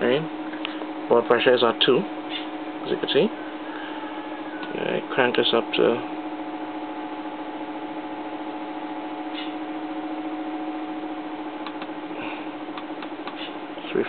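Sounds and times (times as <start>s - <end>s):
hot air blower humming: 0.0s - 14.0s.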